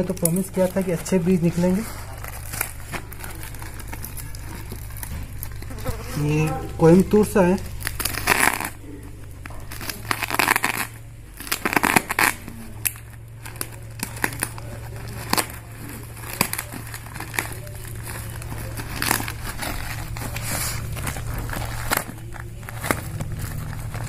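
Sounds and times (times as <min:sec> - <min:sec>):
tape and plastic tearing: 0:00.0 - 0:06.2, 0:07.6 - 0:24.0.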